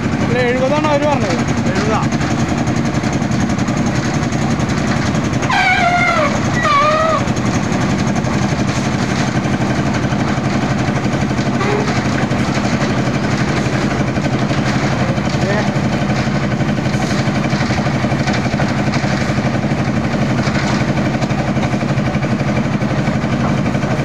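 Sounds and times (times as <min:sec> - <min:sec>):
concrete mixer engine chugging: 0:00.0 - 0:24.0.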